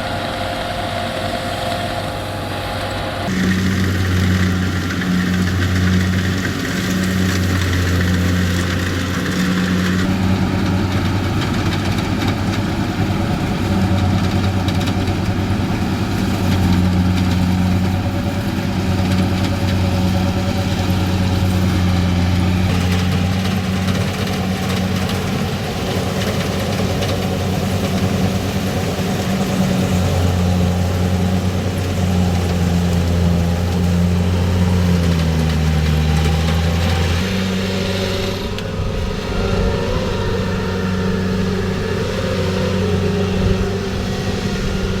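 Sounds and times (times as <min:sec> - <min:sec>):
combine harvester engine humming: 0:00.0 - 0:45.0.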